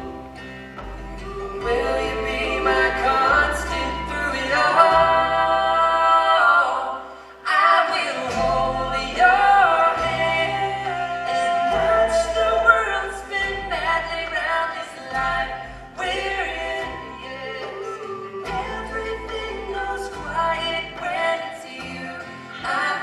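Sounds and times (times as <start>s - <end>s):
low bass notes: 0.0s - 7.2s, 8.3s - 22.4s
voices singing in harmony: 0.0s - 23.0s.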